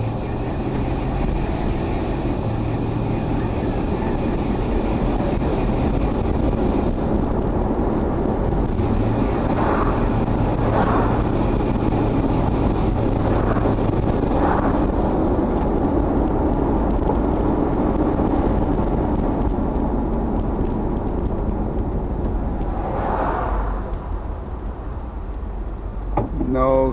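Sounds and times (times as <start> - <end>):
car engine running: 0.0 - 26.9
road noise: 0.0 - 26.9.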